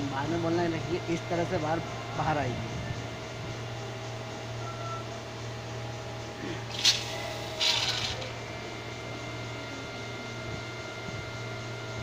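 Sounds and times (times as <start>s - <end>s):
lathe humming: 0.0s - 12.0s.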